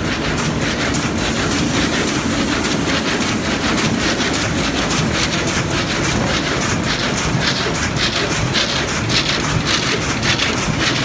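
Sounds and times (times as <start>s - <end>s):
dense mechanical rumble: 0.0s - 11.0s
weaving loom clattering: 0.0s - 11.0s.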